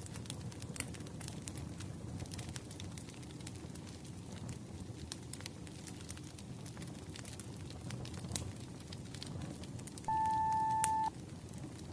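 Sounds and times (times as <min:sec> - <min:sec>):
wood fire crackling: 0:00.0 - 0:11.9.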